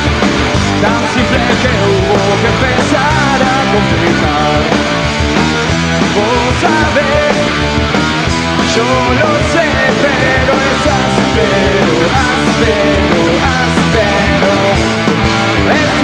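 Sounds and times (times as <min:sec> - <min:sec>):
drums: 0:00.0 - 0:16.0
electric guitars: 0:00.0 - 0:16.0.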